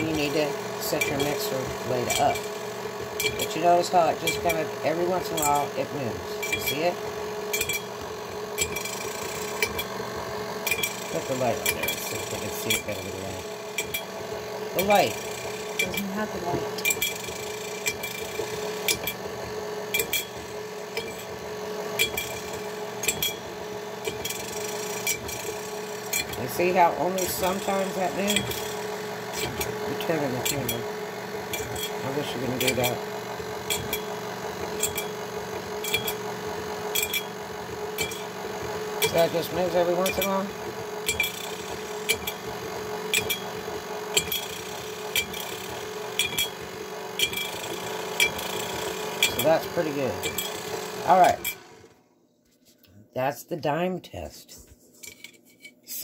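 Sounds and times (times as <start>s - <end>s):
stand mixer motor hum: 0.0s - 52.0s.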